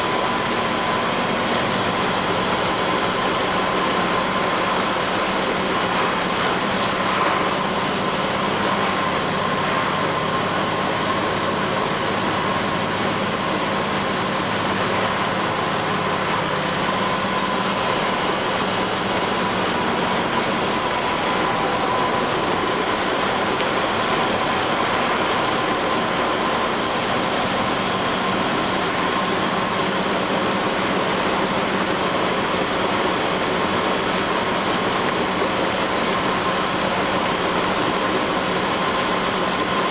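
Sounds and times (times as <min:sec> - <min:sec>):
bus engine running: 0:00.0 - 0:39.9
faint steady whine: 0:00.0 - 0:39.9
road noise: 0:00.0 - 0:39.9.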